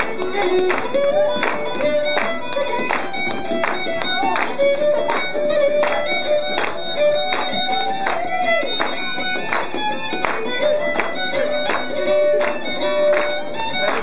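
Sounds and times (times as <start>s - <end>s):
fiddle playing dance tune: 0.0s - 14.0s
steady beat: 0.0s - 14.0s.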